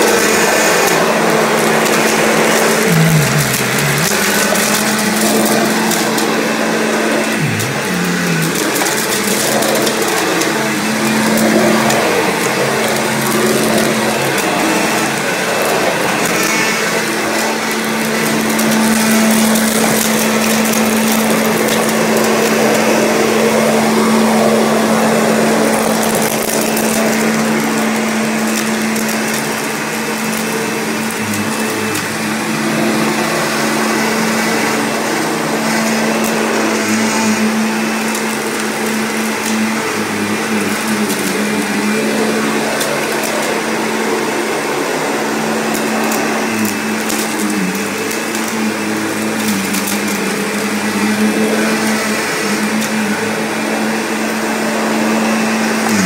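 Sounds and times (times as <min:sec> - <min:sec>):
debris crackling in vacuum: 0:00.0 - 0:56.0
vacuum cleaner running: 0:00.0 - 0:56.0.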